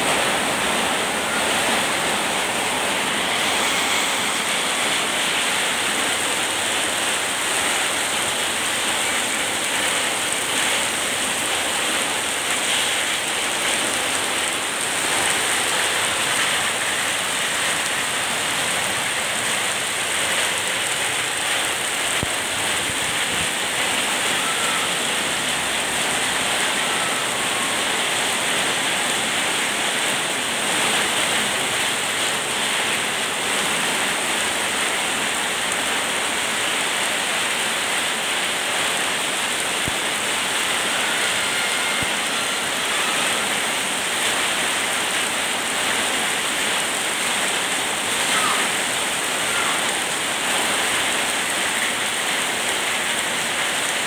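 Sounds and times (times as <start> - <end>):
heavy rain on a flooded street: 0.0 - 54.0.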